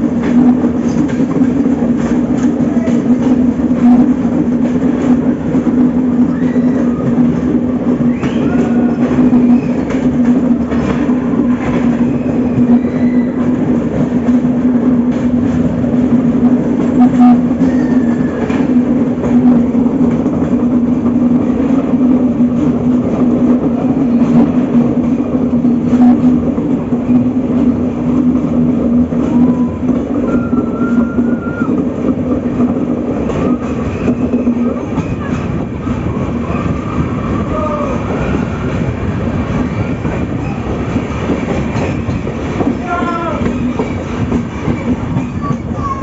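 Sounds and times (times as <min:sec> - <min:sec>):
train rumbling on rails: 0:00.0 - 0:46.0.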